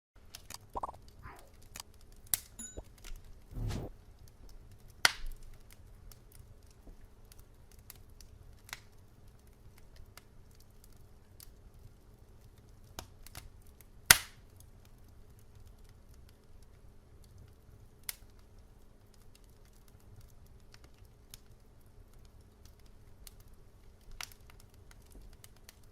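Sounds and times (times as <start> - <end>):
wood fire crackling: 3.5 - 25.9.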